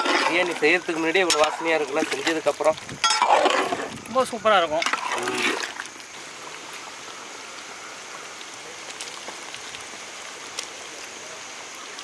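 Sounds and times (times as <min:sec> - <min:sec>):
pot of gravy bubbling: 0:00.0 - 0:12.0.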